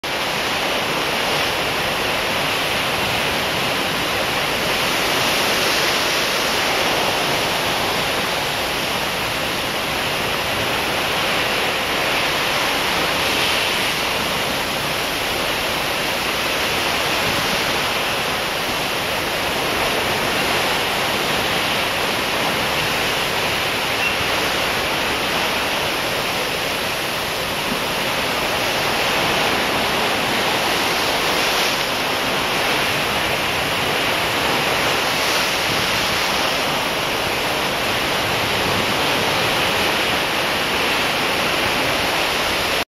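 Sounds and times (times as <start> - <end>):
water rushing along ship hull: 0.0 - 42.9.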